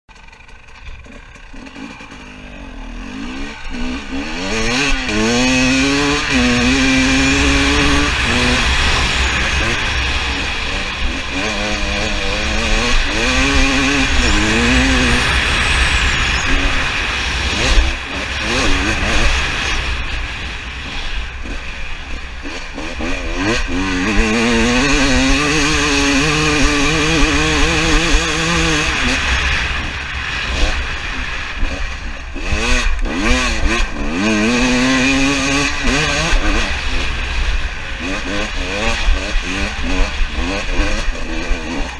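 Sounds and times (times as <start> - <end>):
dirt bike engine revving: 0.1 - 41.9.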